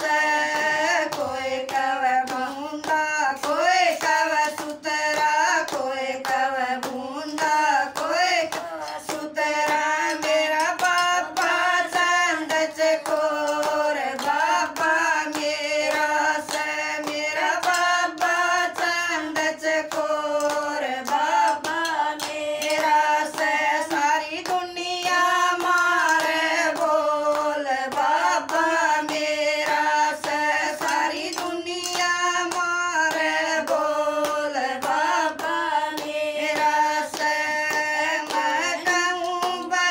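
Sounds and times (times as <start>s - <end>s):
hand claps: 0.0s - 39.9s
women singing in unison: 0.0s - 39.9s.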